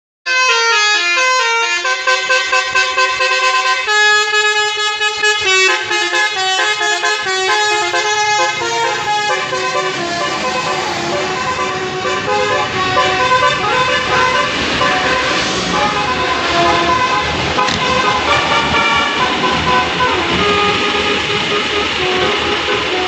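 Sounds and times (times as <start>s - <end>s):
musical bus air horn melody: 0.2s - 23.0s.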